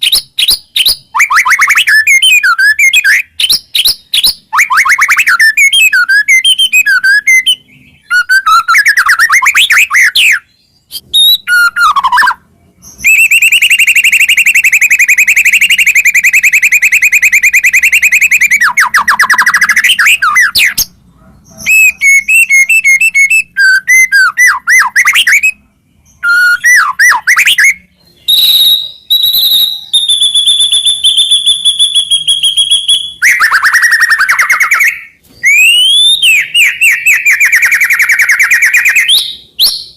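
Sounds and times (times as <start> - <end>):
bird singing whistled phrases and trills: 0.0 - 39.9.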